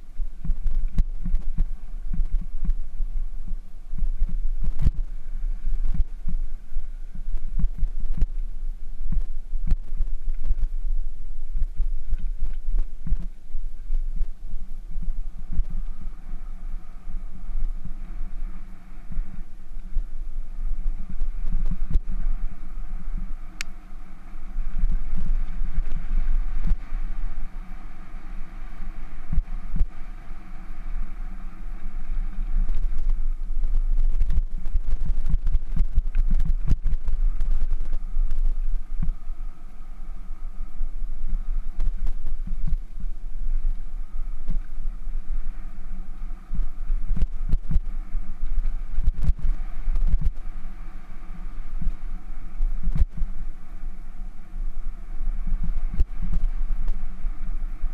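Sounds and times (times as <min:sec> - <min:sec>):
bicycle tyres rumbling on gravel: 0:00.0 - 0:57.9.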